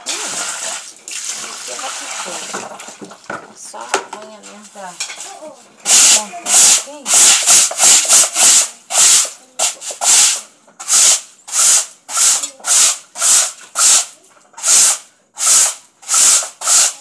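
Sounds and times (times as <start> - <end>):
broom scrubbing wet concrete: 0.0 - 2.9, 5.8 - 17.0.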